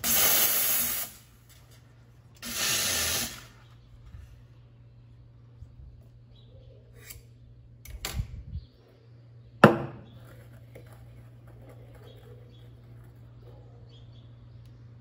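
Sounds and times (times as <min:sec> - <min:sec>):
steady low hum: 0:01.1 - 0:15.0.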